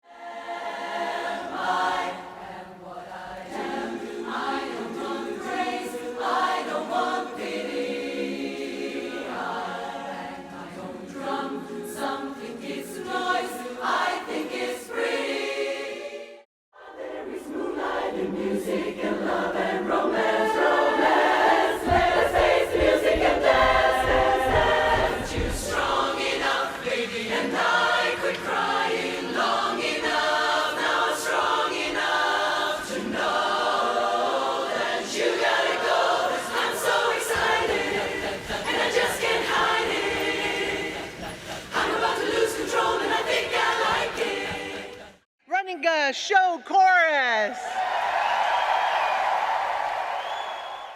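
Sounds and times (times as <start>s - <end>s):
women's chorus singing harmony: 0.0s - 45.3s, 47.7s - 50.9s.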